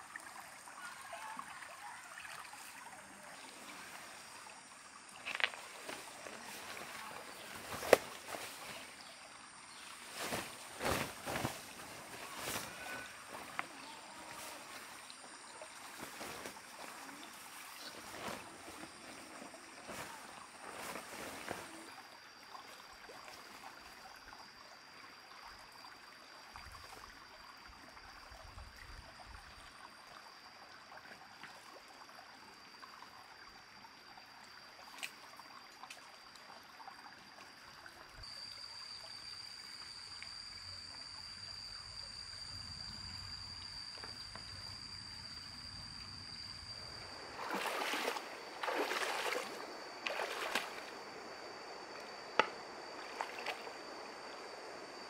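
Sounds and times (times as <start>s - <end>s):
water trickling in stream: 0.0s - 55.0s.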